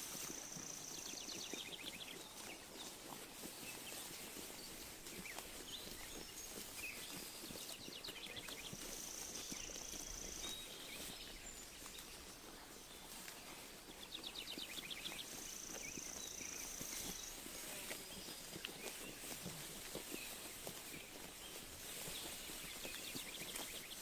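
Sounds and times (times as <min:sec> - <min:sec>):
sheep chewing grass: 0:00.0 - 0:24.0
songbird singing: 0:00.0 - 0:24.0.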